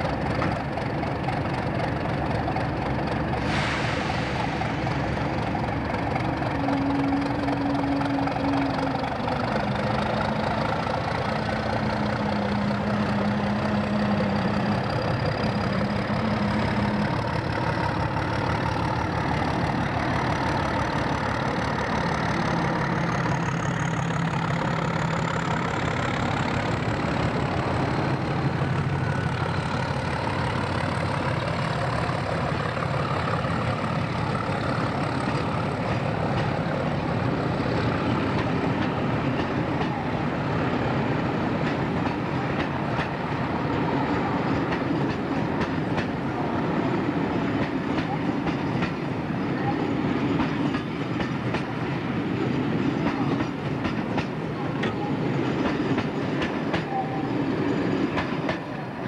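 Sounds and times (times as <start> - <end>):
diesel locomotive engines running: 0.0 - 59.0.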